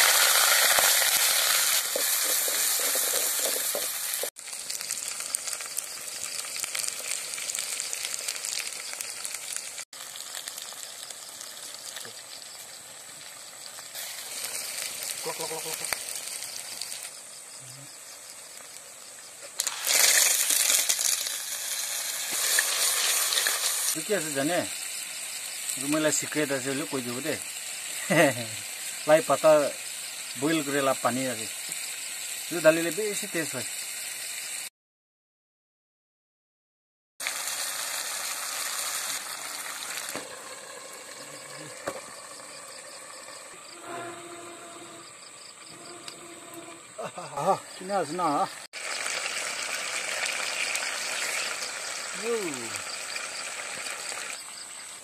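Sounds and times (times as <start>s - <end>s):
loud sizzling in oil: 0.0s - 34.7s, 37.2s - 55.0s
steady rushing hiss: 0.0s - 34.7s, 37.2s - 55.0s.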